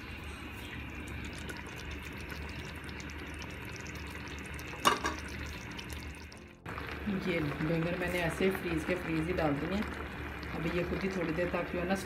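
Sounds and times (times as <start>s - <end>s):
curry sizzling in a pot: 0.5s - 12.0s.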